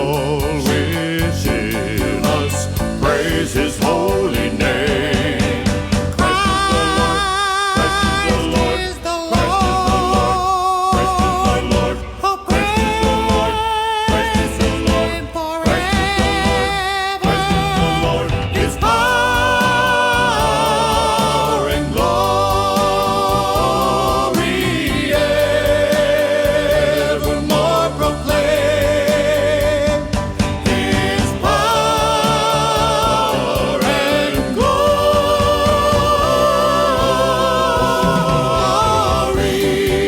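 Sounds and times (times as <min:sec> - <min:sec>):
steady musical accompaniment: 0:00.0 - 0:40.0.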